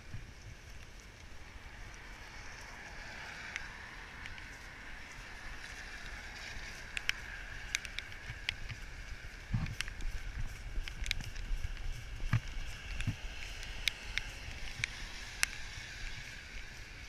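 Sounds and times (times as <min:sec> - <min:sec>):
wet street hiss: 0:00.0 - 0:17.0
wind rumble on microphone: 0:00.0 - 0:17.0
light sharp clicks: 0:01.9 - 0:17.0.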